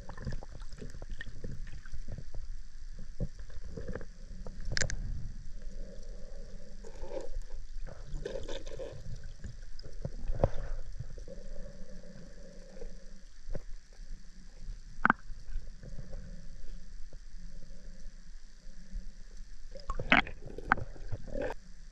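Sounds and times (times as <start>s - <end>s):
murmur of water: 0.0s - 21.9s
underwater drone thrusters humming: 0.0s - 21.9s.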